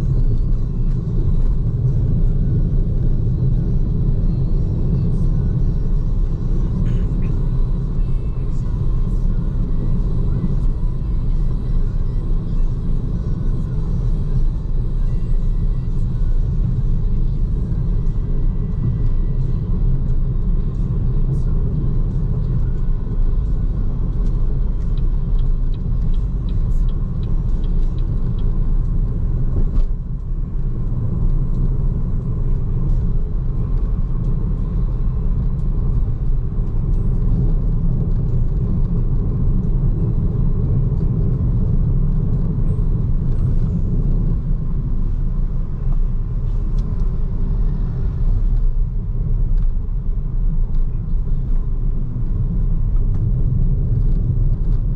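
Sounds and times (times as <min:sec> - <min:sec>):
tyre road rumble: 0:00.0 - 0:54.9.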